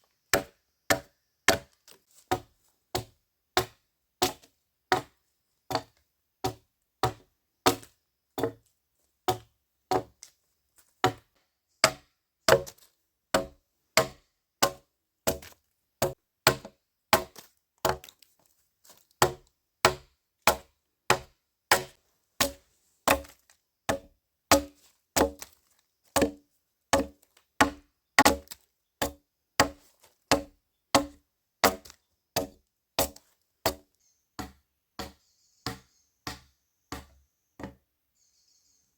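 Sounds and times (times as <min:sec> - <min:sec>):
hand tool chopping wood: 0:00.3 - 0:08.7, 0:09.3 - 0:10.4, 0:11.0 - 0:37.8.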